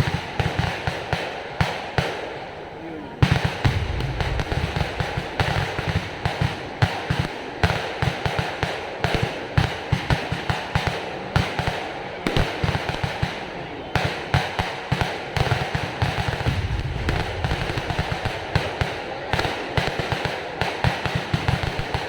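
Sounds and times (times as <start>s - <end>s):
firecrackers banging: 0.0s - 22.0s.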